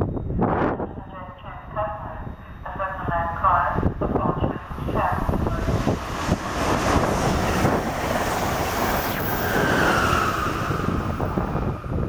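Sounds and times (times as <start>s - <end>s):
locomotive whine: 0.0s - 12.0s
wind buffeting microphone: 0.0s - 12.0s
train passing at speed: 2.0s - 12.0s.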